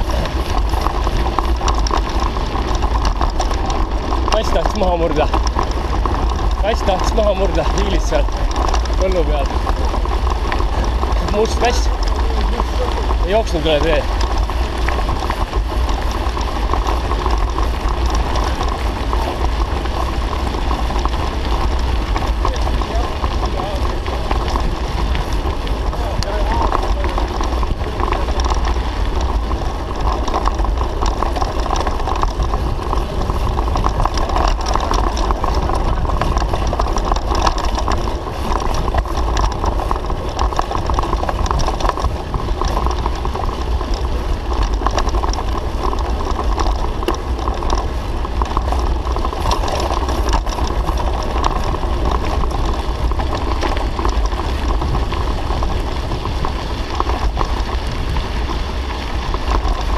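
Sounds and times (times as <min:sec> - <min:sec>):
bike tyres crunching on gravel: 0:00.0 - 0:59.9
gravel rattling and ticking: 0:00.0 - 0:59.9
wind rumble on microphone: 0:00.0 - 0:59.9.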